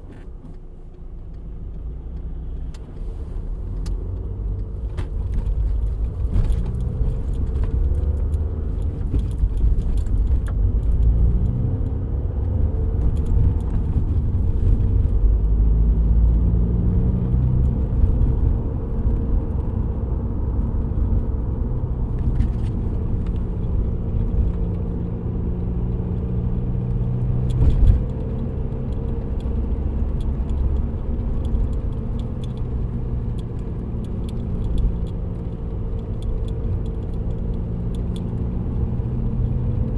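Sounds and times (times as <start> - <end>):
car engine running while driving: 0.0 - 39.9
road rumble: 0.0 - 39.9.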